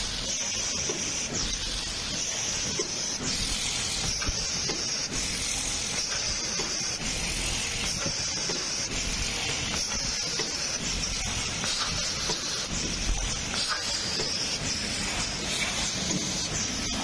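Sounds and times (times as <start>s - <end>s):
machine hissing: 0.0s - 17.0s.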